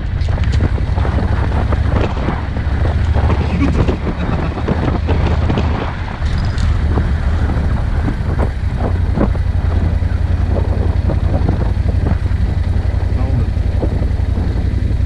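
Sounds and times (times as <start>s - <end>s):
engine and tyres rumbling: 0.0s - 15.0s
wind noise on microphone: 0.0s - 15.0s.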